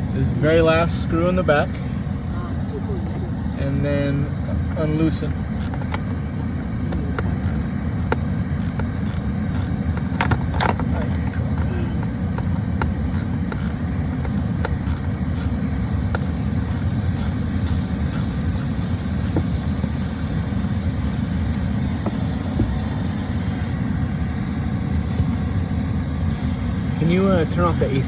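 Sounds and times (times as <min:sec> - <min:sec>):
air-conditioning blower rushing: 0:00.0 - 0:28.0.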